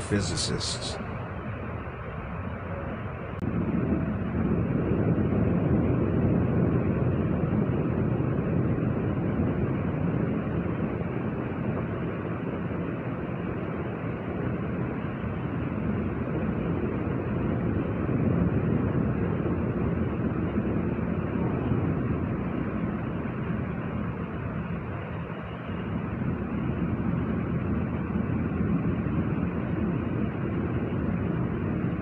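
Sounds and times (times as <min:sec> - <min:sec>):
steady low rumbling: 0:00.0 - 0:32.0.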